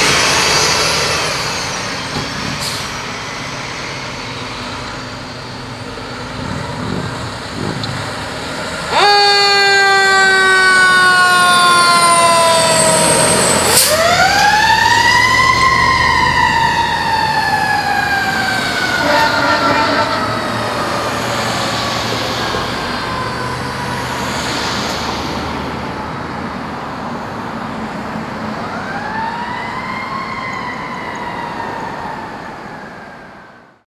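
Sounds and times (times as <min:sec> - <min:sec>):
fire engine siren: 0:00.0 - 0:33.8.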